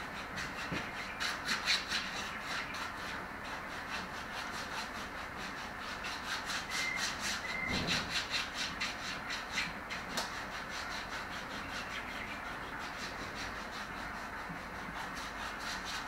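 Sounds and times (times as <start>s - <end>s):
foot file rasping on skin: 0.0s - 16.0s.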